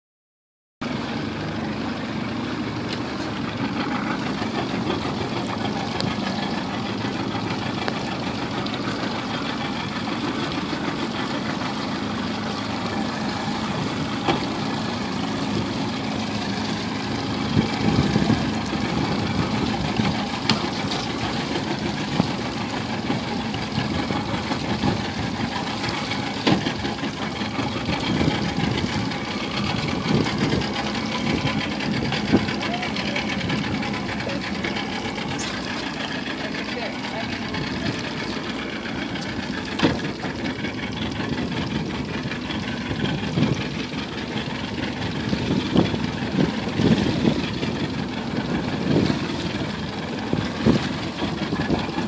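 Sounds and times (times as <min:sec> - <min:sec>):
motorboat engine idling: 0:00.8 - 0:52.0.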